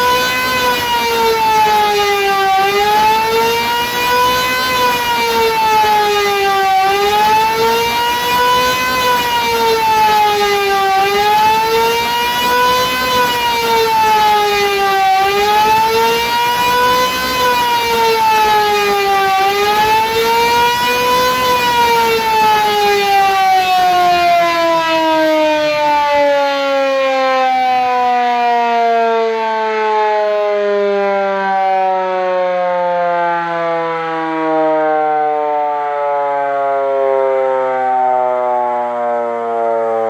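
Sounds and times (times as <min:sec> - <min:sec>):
electric motor siren wailing: 0:00.0 - 0:40.0.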